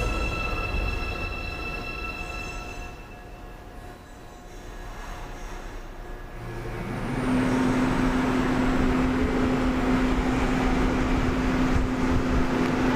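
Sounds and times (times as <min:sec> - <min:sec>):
train electric hum: 0:00.0 - 0:12.9.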